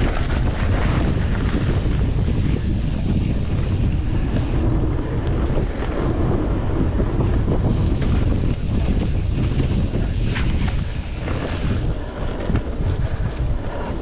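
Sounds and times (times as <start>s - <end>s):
bike rattles: 0.0s - 14.0s
wind buffeting microphone: 0.0s - 14.0s.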